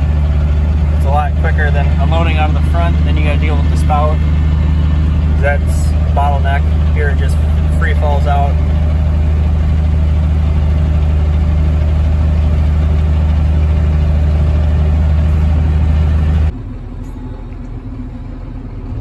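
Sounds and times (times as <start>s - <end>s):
tractor engine drone: 0.0s - 19.0s.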